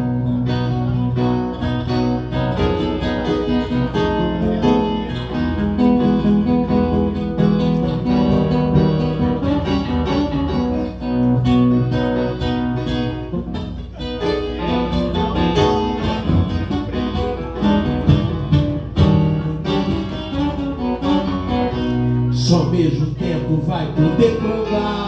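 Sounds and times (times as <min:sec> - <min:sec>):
acoustic guitar picking a melody: 0:00.0 - 0:25.0.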